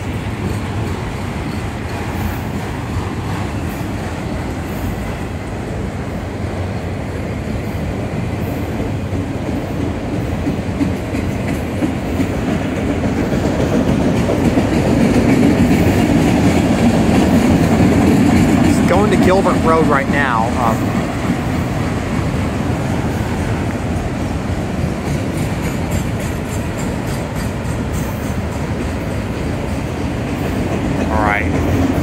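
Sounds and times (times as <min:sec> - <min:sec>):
train wheels clacking on rail: 0:00.0 - 0:32.0.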